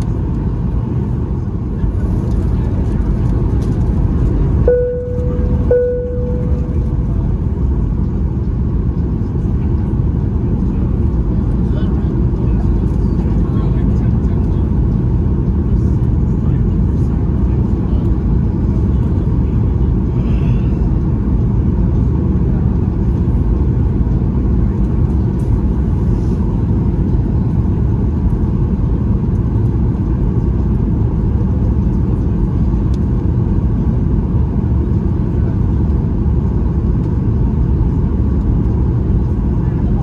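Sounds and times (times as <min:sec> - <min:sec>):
airliner cabin rumble: 0:00.0 - 0:40.0.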